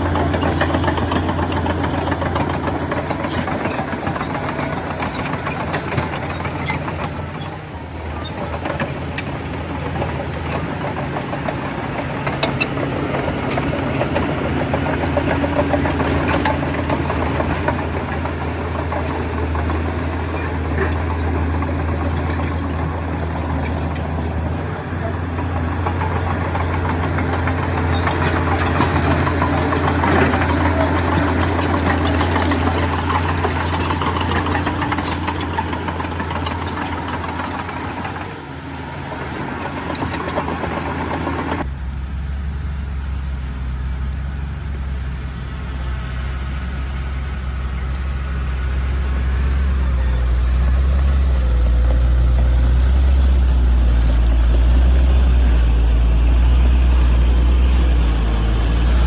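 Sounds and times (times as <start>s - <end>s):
rattling and scraping: 0.0s - 38.4s, 39.1s - 41.7s, 47.5s - 59.0s
diesel machinery engine drone: 0.0s - 59.0s.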